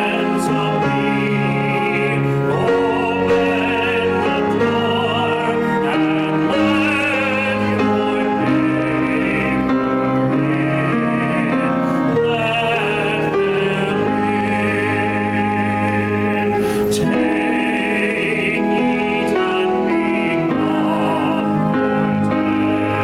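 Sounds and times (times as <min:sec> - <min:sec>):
slow hymn singing with vibrato: 0:00.0 - 0:23.0
sustained instrumental chords: 0:00.0 - 0:23.0.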